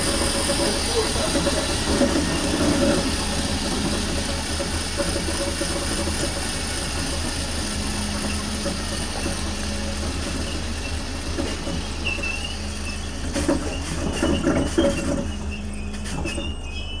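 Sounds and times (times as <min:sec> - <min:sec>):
electric train motor hum: 0:00.0 - 0:17.0.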